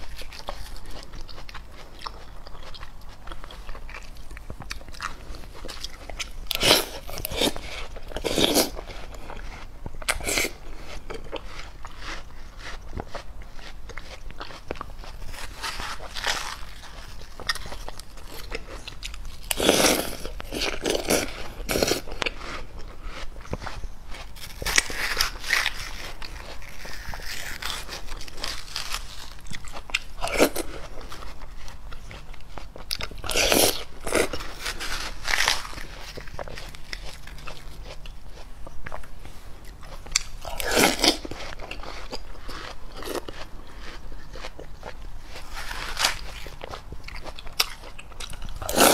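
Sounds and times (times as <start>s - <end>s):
crunchy chewing: 0.0s - 48.9s.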